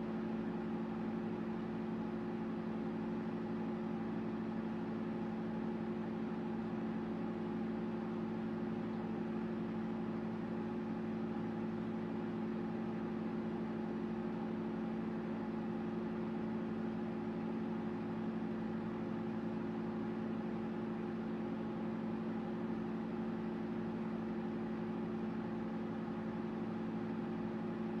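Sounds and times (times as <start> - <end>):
microwave oven humming: 0.0 - 28.0.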